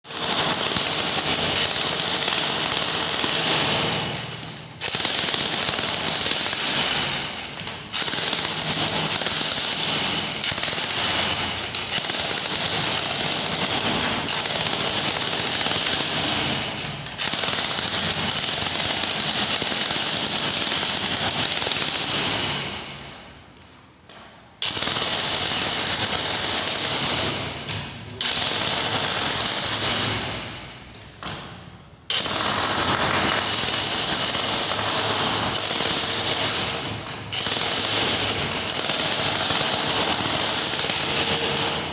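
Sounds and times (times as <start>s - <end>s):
jackhammer hammering: 0.1s - 41.9s.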